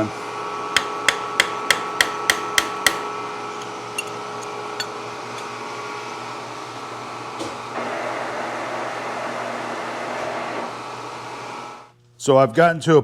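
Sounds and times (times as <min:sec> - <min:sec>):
fan-like mechanical hum: 0:00.0 - 0:12.9.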